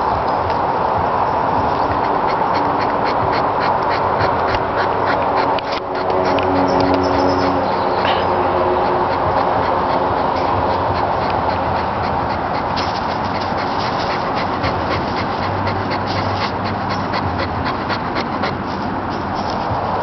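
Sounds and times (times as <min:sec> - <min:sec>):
dog panting rapidly: 0:01.0 - 0:20.0.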